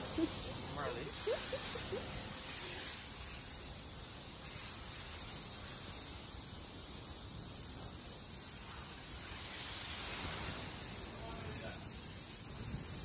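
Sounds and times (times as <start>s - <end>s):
pressure washer water spray: 0.0s - 13.0s.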